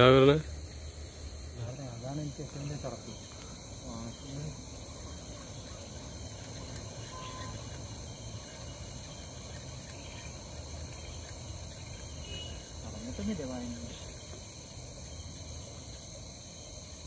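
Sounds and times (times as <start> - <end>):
crickets and insects trilling: 0.0 - 17.0.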